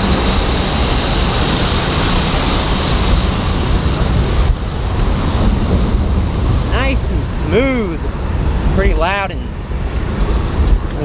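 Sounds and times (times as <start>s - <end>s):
truck engines: 0.0s - 11.0s
wind and road noise on microphone: 0.0s - 11.0s.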